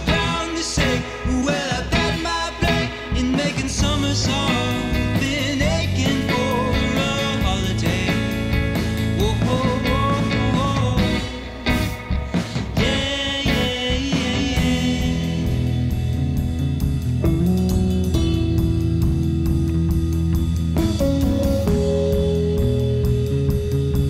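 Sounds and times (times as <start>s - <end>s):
rock song with singing and guitar: 0.0s - 24.0s.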